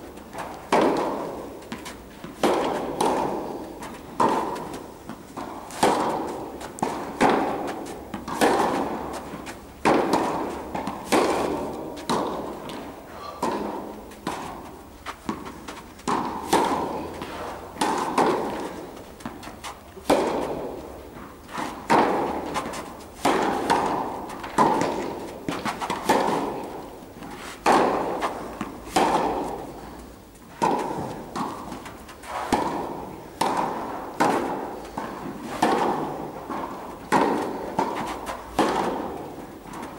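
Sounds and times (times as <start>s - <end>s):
rackets hitting tennis ball: 0.0s - 39.9s
tennis ball bouncing: 0.0s - 39.9s.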